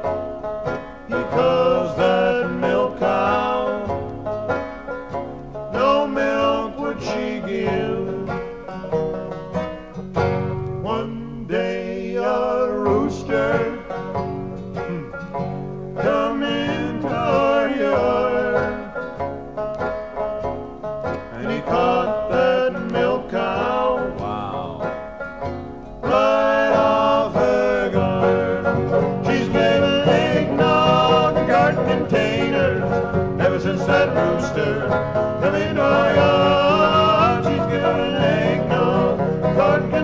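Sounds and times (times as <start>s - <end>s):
acoustic guitar picking: 0.0s - 40.0s
banjo picking: 0.0s - 40.0s.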